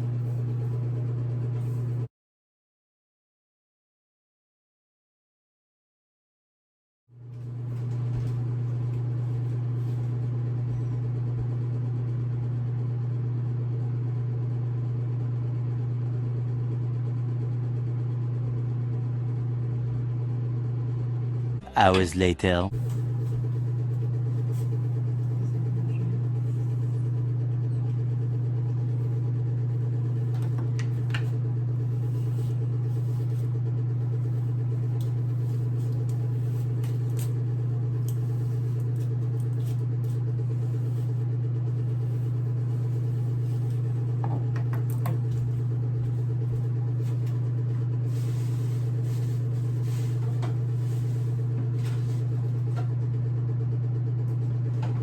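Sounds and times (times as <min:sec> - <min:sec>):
low mechanical hum: 0:00.0 - 0:02.1, 0:07.2 - 0:55.0.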